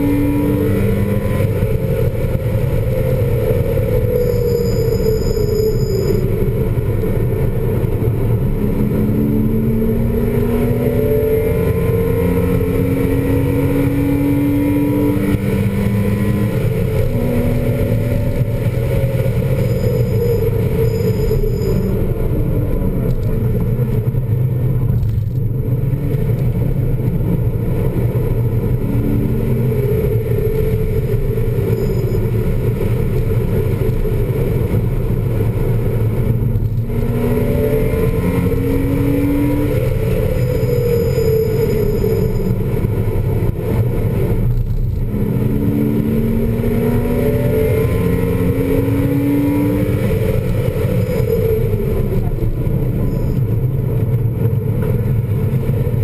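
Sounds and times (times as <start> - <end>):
car engine revving: 0.0 - 4.9, 6.3 - 56.0
road and wind noise: 0.0 - 56.0.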